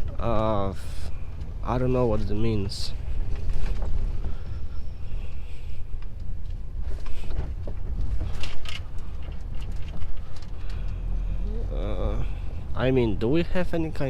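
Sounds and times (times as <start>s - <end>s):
cab creaks and rattles: 0.0s - 14.0s
truck engine rumble: 0.0s - 14.0s.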